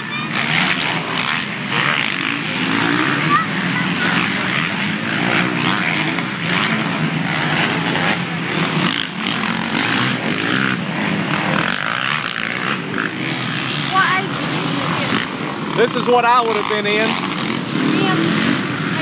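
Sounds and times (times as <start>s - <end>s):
dirt bike engines racing: 0.0s - 19.0s.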